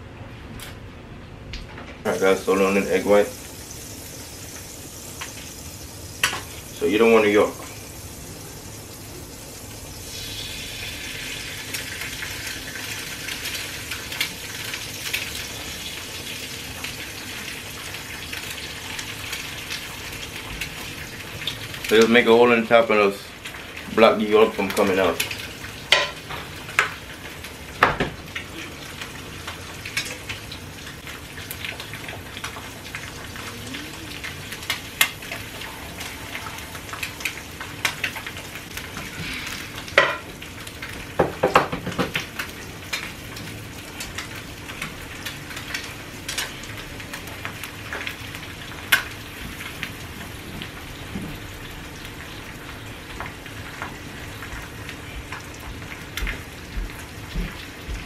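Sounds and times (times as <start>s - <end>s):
egg sizzling in frying pan: 2.0s - 58.0s.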